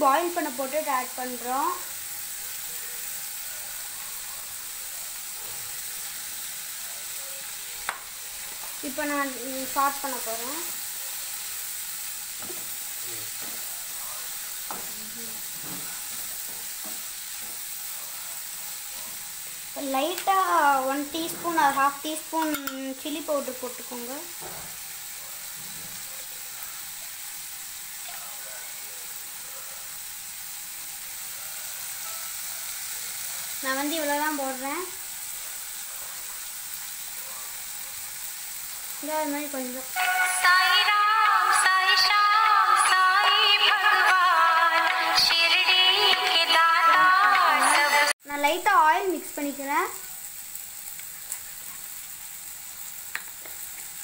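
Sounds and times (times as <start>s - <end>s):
vegetables frying in oil: 0.0s - 54.0s.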